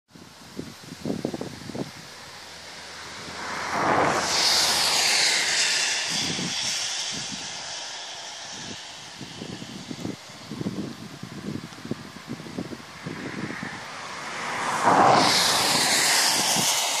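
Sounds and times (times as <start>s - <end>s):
aircraft passing overhead: 1.4s - 17.0s.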